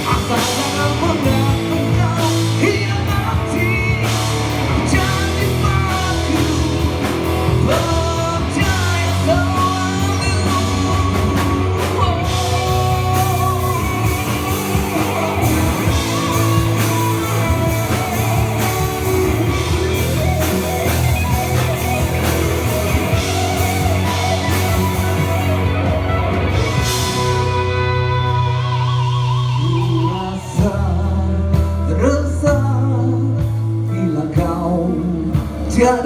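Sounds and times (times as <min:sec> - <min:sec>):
drums: 0:00.0 - 0:36.0
electric guitar: 0:00.0 - 0:36.0
rock band playing live: 0:00.0 - 0:36.0.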